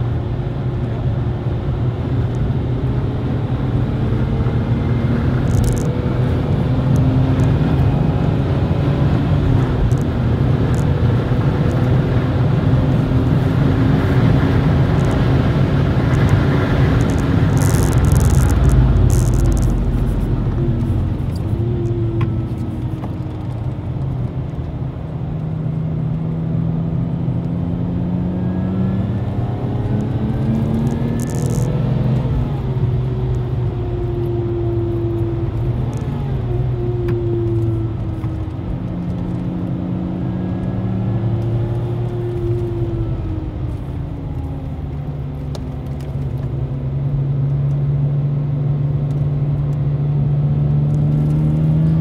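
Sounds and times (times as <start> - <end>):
car engine revving from cabin: 2.6 - 23.0, 26.2 - 52.0.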